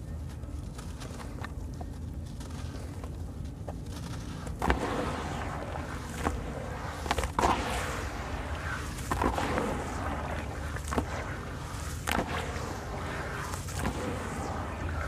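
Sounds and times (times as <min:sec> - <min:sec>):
sharp crackles: 0:00.2 - 0:15.0.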